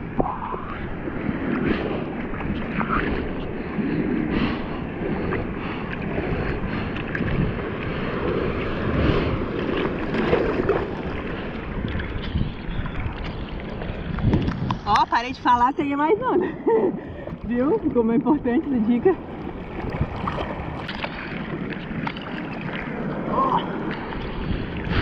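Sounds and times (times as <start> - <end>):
water sloshing and lapping: 0.0 - 25.0.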